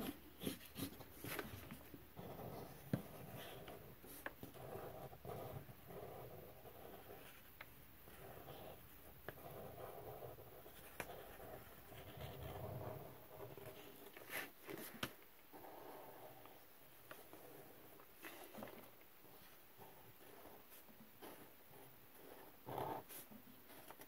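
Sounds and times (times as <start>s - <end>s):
marker scratching on paper: 0.0s - 7.5s, 8.1s - 15.0s, 17.1s - 24.0s.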